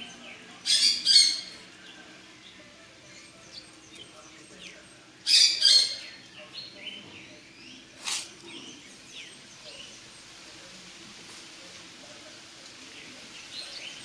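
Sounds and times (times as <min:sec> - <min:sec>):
birds chirping: 0:00.0 - 0:11.0, 0:12.8 - 0:14.0.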